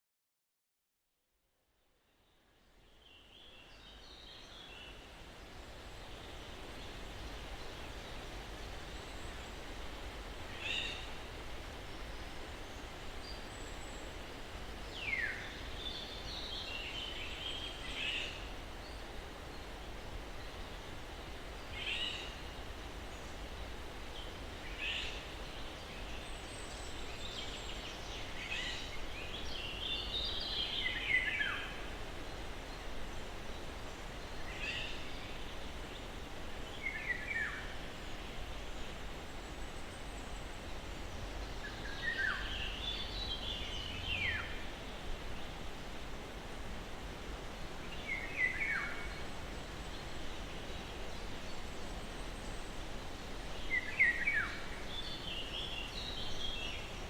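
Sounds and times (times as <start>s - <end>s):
breeze through pine trees: 0.8s - 57.0s.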